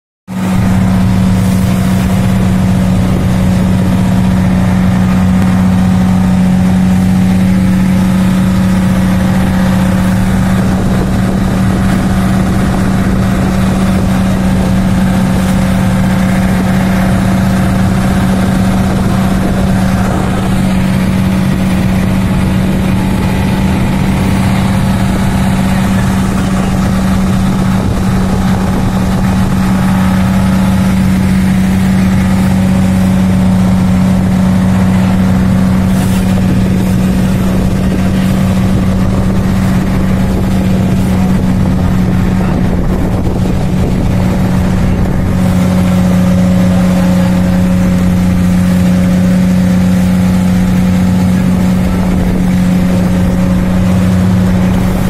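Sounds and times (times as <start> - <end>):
boat engine humming: 0.3 - 55.0.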